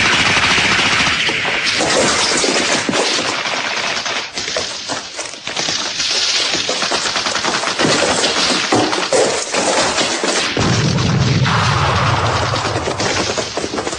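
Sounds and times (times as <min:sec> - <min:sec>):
machine-gun fire: 0:00.0 - 0:13.9.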